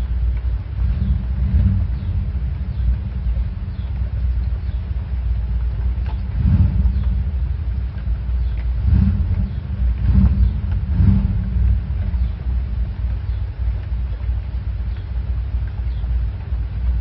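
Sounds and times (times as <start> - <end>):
fan air buffeting microphone: 0.0 - 17.0.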